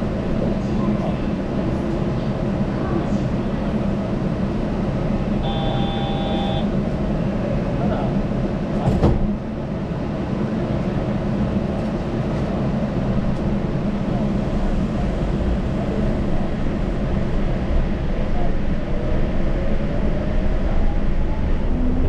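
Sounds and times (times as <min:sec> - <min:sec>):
train rumbling from inside: 0:00.0 - 0:22.0.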